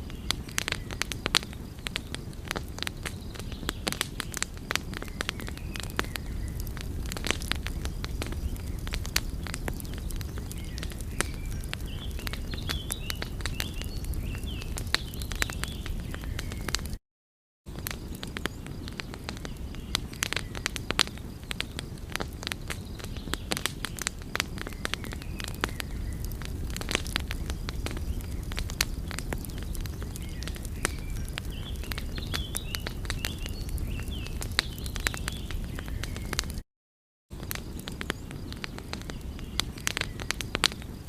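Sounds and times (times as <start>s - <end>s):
wood fire crackling: 0.0s - 17.0s, 17.7s - 36.6s, 37.3s - 41.0s.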